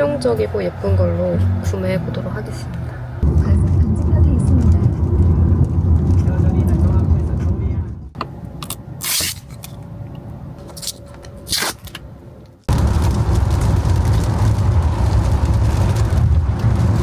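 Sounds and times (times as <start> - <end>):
car low rumble: 0.0 - 17.0.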